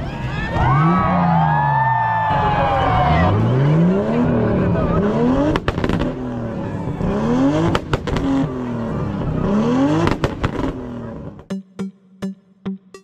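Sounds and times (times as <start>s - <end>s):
car engine revving: 0.0s - 11.5s.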